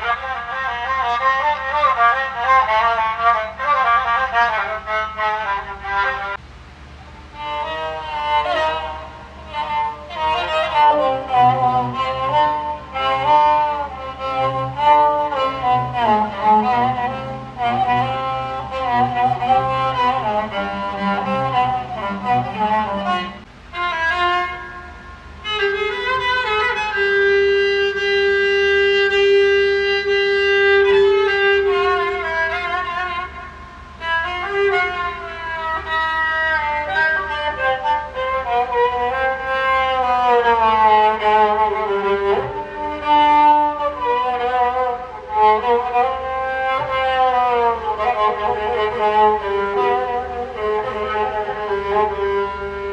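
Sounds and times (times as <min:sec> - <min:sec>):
low steady drone: 0:00.0 - 0:52.9
bowed spike fiddle melody: 0:07.4 - 0:52.9.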